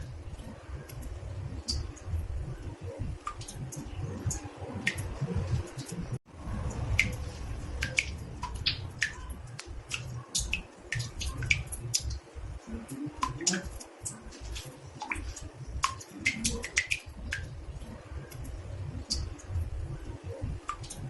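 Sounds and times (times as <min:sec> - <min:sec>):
low steady rumble: 0:00.0 - 0:21.0
water drops plinking in bathtub: 0:00.0 - 0:21.0.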